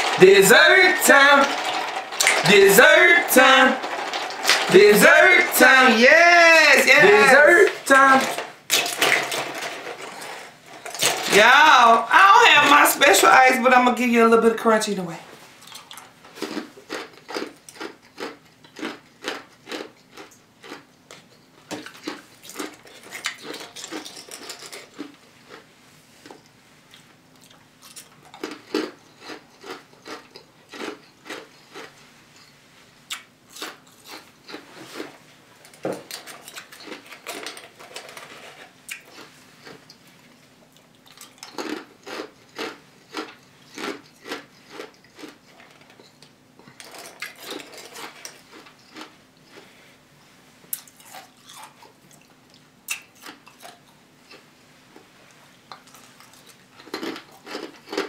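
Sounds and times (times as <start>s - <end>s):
ice crunching between teeth: 0.0s - 13.2s, 15.6s - 32.0s, 33.1s - 35.2s, 36.0s - 40.0s, 40.8s - 49.6s, 55.7s - 58.0s.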